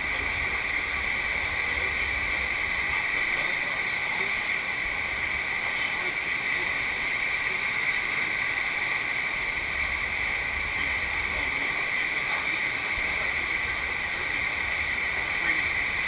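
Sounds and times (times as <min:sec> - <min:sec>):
rush of pouring water: 0:00.0 - 0:16.0.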